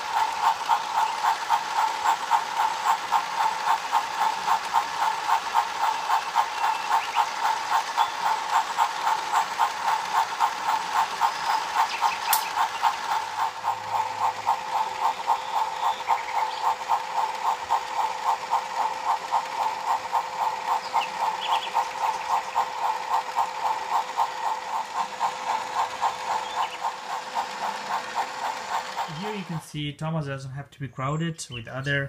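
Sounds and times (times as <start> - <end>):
rapid regular clicking of drive: 0.0 - 29.6
toy train motor hum: 0.0 - 29.8.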